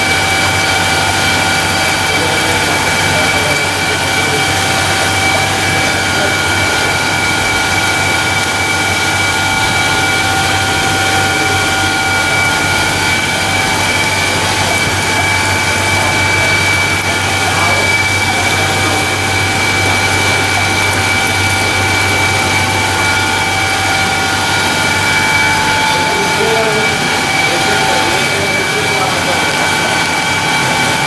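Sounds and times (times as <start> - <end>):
washing machine droning: 0.0 - 31.0.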